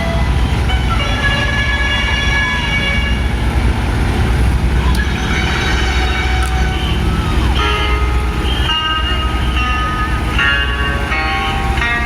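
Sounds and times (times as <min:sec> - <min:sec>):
high horn-like tones: 0:00.0 - 0:03.7, 0:04.8 - 0:12.0
vehicle engine low rumble: 0:00.0 - 0:12.0.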